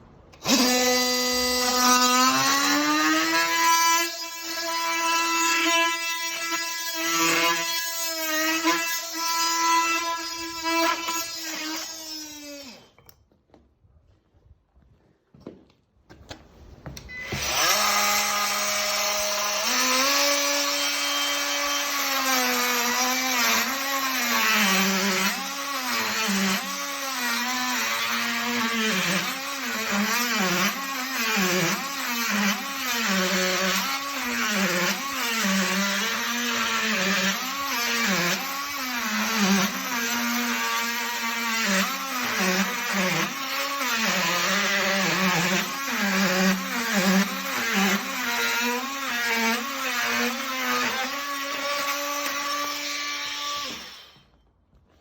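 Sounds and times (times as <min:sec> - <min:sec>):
oscillating multi-tool cutting: 0:00.3 - 0:13.1, 0:17.1 - 0:54.3.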